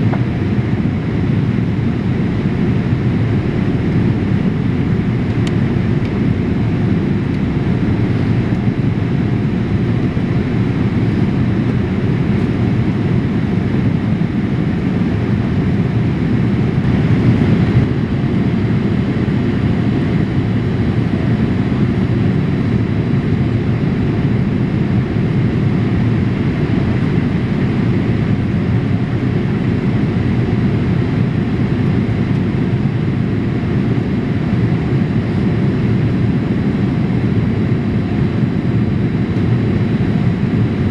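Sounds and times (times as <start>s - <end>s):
airliner cabin noise: 0.0s - 40.9s.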